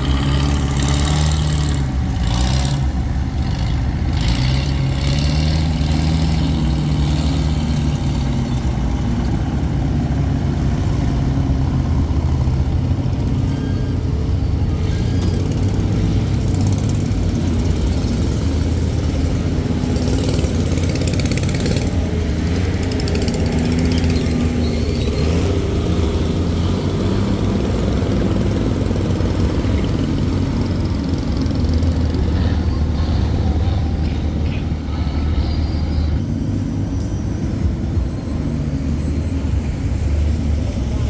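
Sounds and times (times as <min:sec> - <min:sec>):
engine droning steadily: 0:00.0 - 0:41.0.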